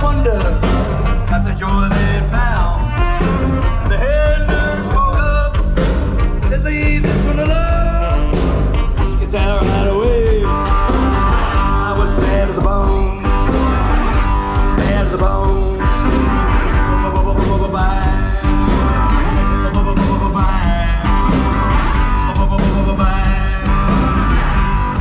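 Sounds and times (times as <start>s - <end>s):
drums: 0.0s - 25.0s
electric guitar: 0.0s - 25.0s
lead vocal singing: 0.0s - 25.0s.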